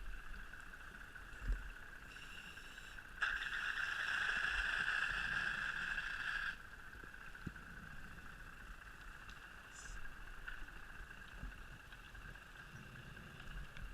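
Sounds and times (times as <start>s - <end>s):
steady faint hiss: 0.0s - 13.9s.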